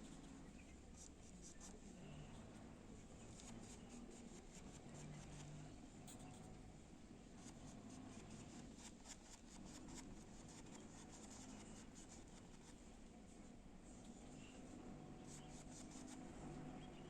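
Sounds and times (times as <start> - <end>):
low steady hum: 0.0 - 17.0
paintbrush strokes: 0.0 - 17.0.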